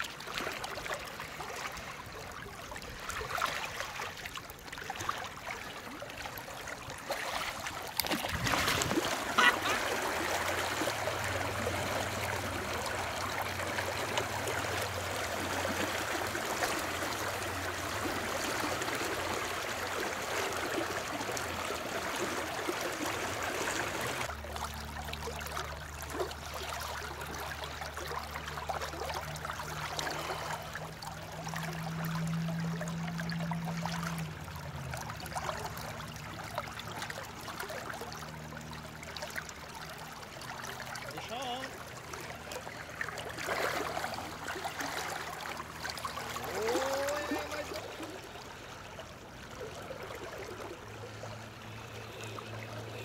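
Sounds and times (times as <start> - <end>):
river water flowing and trickling: 0.0 - 53.0.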